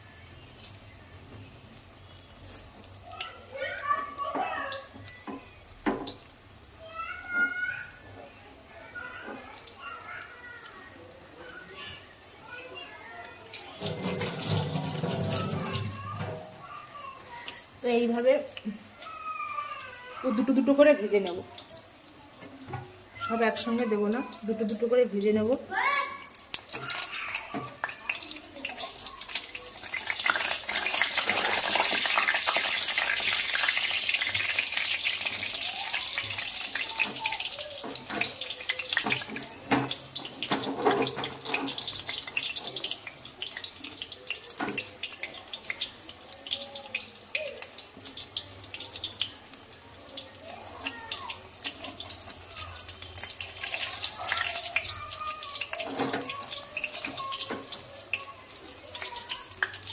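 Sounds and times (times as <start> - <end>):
chicken frying in hot oil: 0.0 - 59.9.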